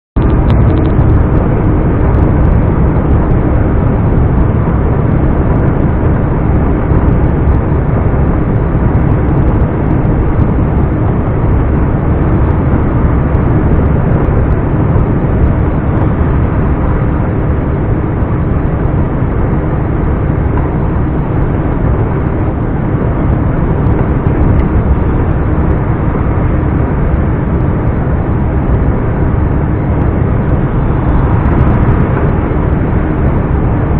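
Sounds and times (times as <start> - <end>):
truck diesel engine running: 0.2 - 33.9.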